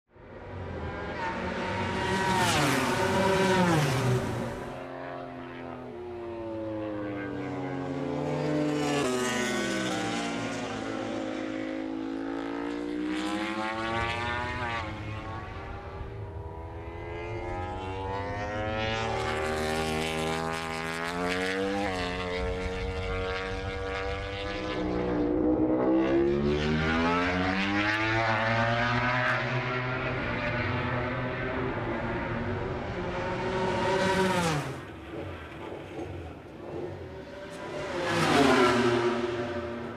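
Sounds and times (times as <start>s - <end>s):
racing motorcycle engine: 0.2s - 39.9s.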